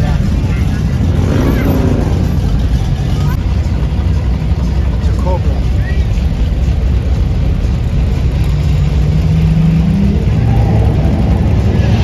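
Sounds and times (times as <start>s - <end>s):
car engine running low: 0.0s - 12.0s.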